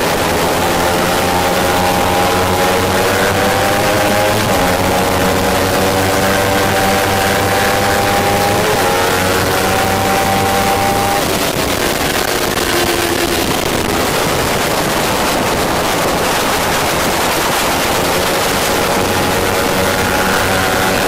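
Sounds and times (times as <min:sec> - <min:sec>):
motorcycle engine high-revving: 0:00.0 - 0:21.0
wind rushing on camera: 0:00.0 - 0:21.0.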